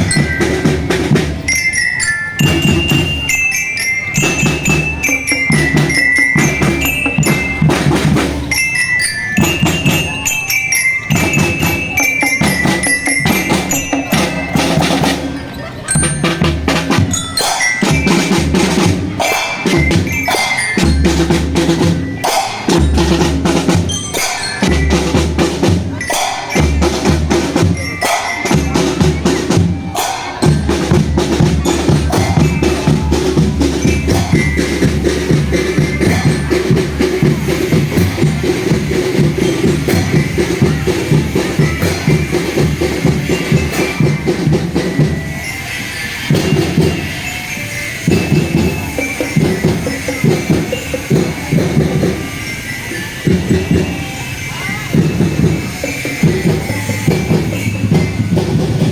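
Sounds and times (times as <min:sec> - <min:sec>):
glockenspiel melody: 0:00.0 - 0:58.9
snare and bass drums march rhythm: 0:00.0 - 0:58.9.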